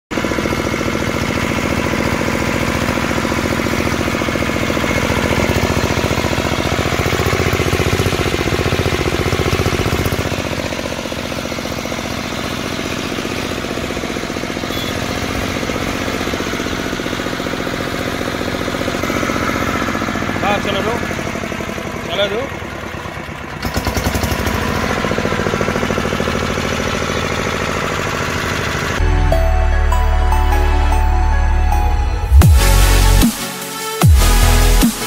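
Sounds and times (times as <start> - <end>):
diesel engine chugging: 0.1 - 35.0.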